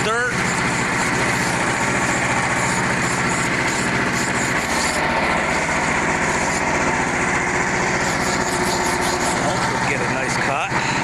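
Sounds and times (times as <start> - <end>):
sawmill engine cutting log: 0.0 - 11.0.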